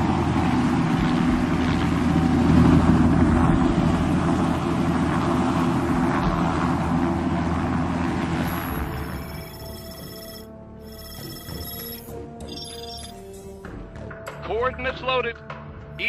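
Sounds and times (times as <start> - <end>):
aircraft engine drone: 0.0 - 13.7.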